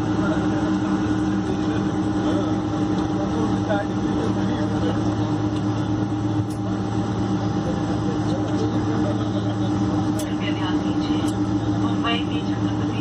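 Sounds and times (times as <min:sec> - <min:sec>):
airplane cabin hum: 0:00.0 - 0:13.0
low engine tones: 0:00.0 - 0:13.0.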